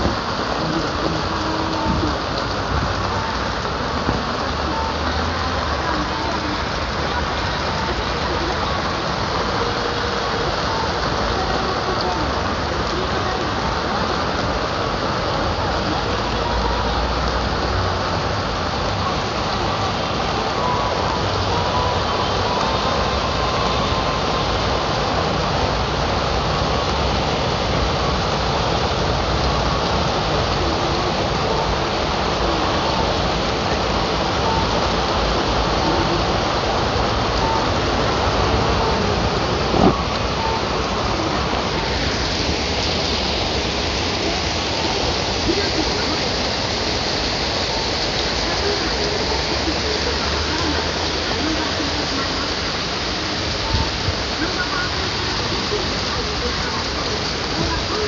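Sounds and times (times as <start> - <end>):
rain falling on street: 0.0 - 58.0.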